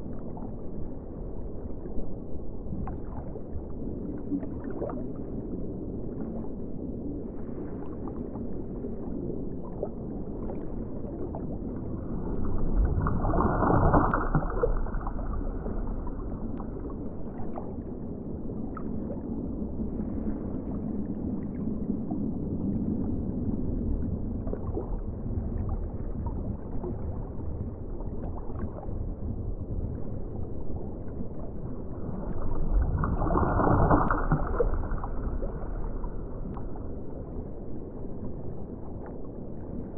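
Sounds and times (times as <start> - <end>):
underwater wash of water: 0.0 - 39.9
water surges: 0.0 - 39.9.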